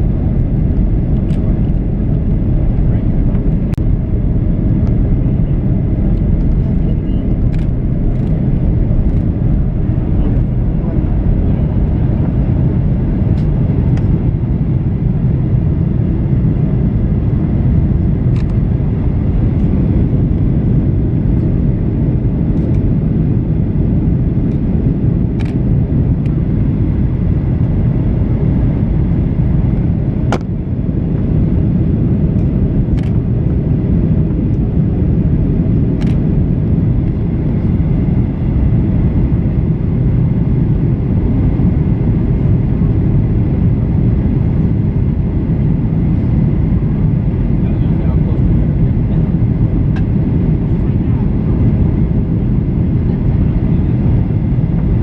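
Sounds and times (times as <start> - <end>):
airplane roar in flight: 0.0 - 55.0.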